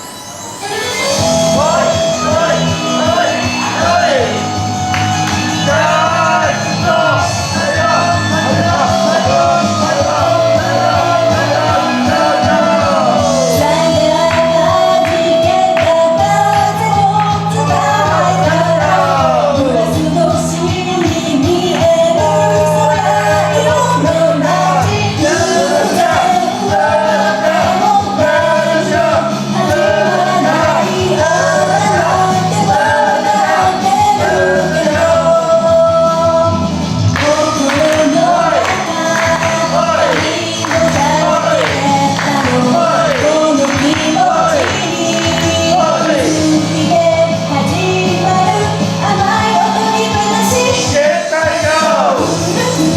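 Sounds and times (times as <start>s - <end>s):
backing track with pulsing bass: 1.0s - 52.9s
woman singing pop song: 2.6s - 52.9s.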